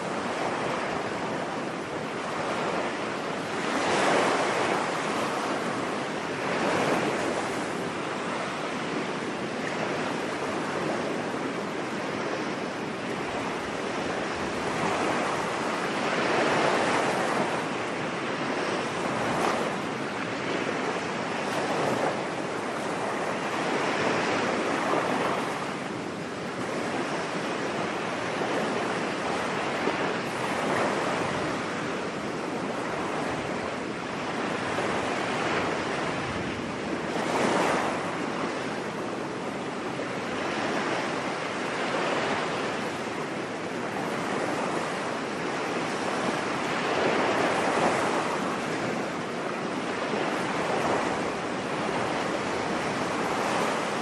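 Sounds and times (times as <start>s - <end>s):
ocean waves on a beach: 0.0s - 54.0s.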